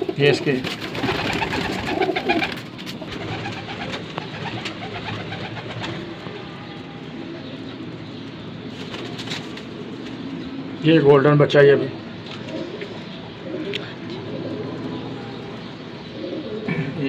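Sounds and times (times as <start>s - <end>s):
pigeons cooing: 0.0s - 10.6s, 12.0s - 17.0s.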